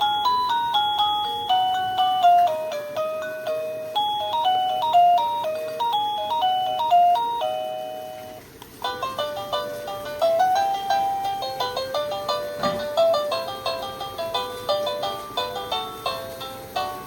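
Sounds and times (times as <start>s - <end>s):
electronic doorbell melody: 0.0s - 17.0s.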